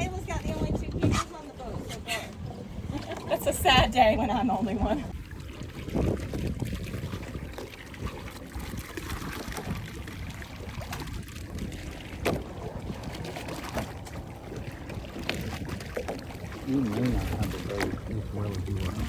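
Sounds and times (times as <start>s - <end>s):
water sloshing against boat hull: 0.0s - 19.0s.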